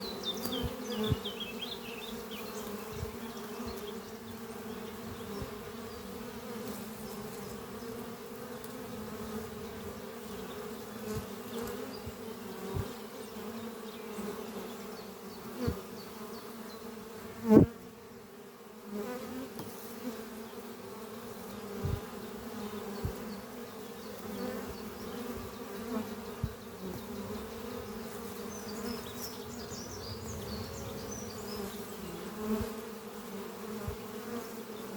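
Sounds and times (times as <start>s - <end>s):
hum of many bees: 0.0s - 34.9s
single bee buzzing close by: 0.0s - 34.9s.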